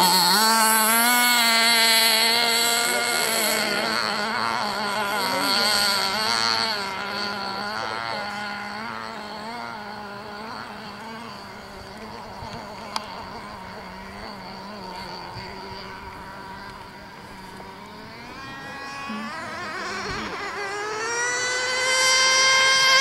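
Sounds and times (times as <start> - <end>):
model boat engine whining: 0.0 - 23.0.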